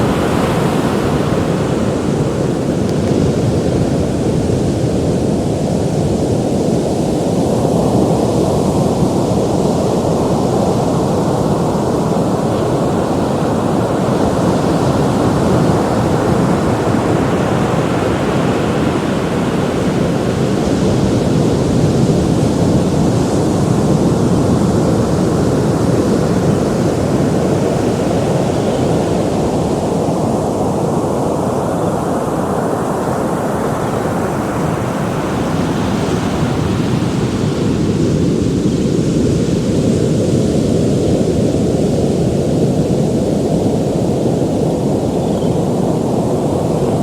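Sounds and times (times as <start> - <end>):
waves breaking: 0.0 - 6.8, 9.3 - 40.9.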